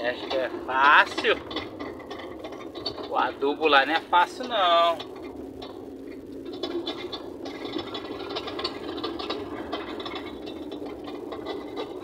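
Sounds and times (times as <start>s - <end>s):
engine droning: 0.0s - 12.0s
truck cab rattling: 0.0s - 12.0s.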